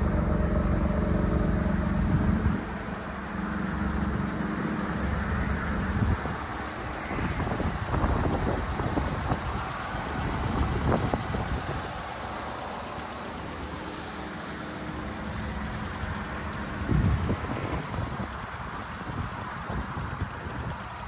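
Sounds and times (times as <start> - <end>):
wind rumbling on microphone: 0.0 - 14.4, 15.0 - 21.0
car engine idling: 0.0 - 21.0.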